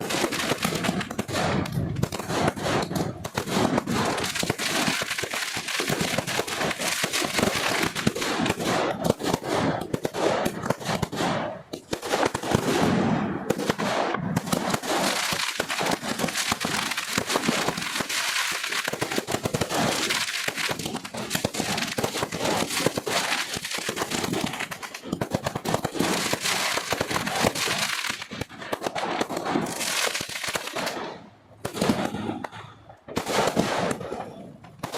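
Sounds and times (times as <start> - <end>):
fireworks crackling: 0.0 - 34.9.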